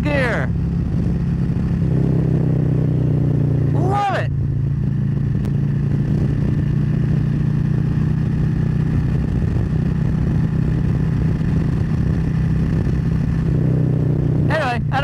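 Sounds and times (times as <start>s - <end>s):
wind noise: 0.0s - 3.7s, 4.4s - 15.0s
motorcycle engine cruising: 0.0s - 15.0s
road noise: 0.0s - 15.0s.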